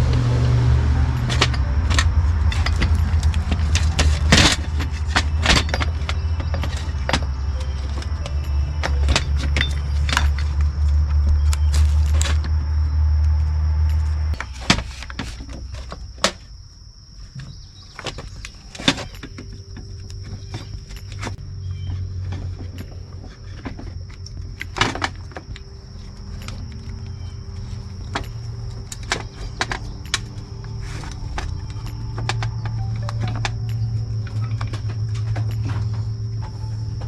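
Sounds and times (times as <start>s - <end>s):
low machine hum: 0.0s - 16.2s, 18.6s - 37.0s
small parts clicking and clinking: 1.2s - 12.6s, 17.4s - 37.0s.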